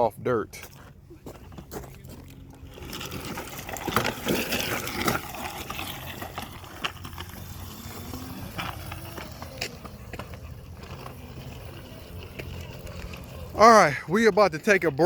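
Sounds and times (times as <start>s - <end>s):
faint electric motor whine: 0.7s - 15.0s.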